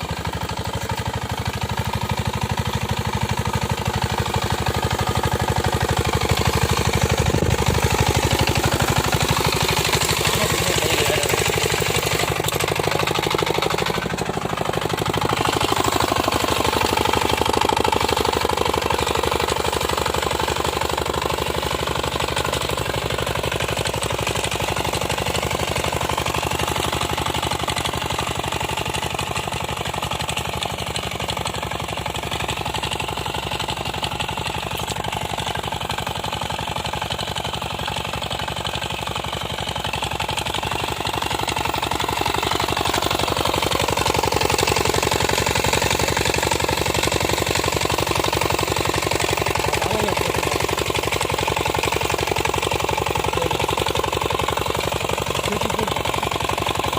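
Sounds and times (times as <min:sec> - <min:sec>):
small tractor engine chugging: 0:00.0 - 0:56.9.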